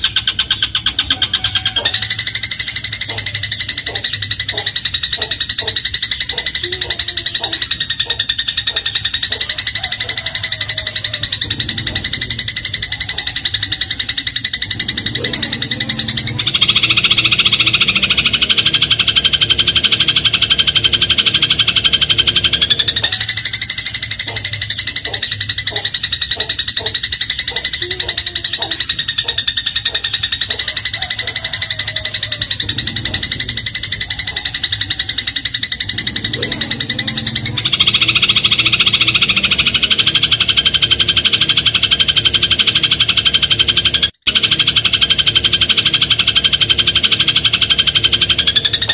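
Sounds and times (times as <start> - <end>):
sparrow rattling trill: 0.0 - 48.9.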